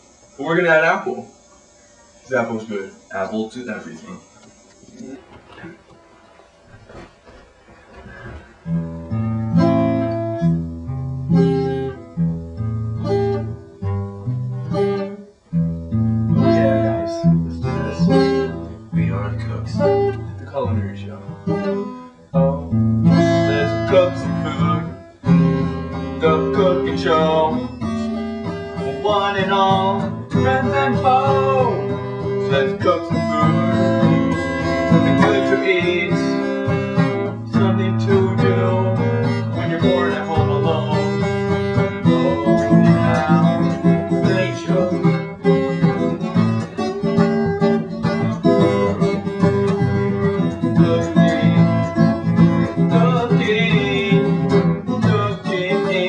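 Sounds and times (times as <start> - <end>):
acoustic guitar strummed and plucked: 0.0 - 56.0.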